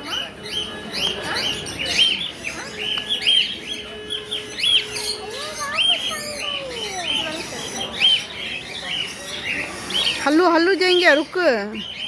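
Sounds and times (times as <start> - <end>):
parrots chirping: 0.0 - 12.0.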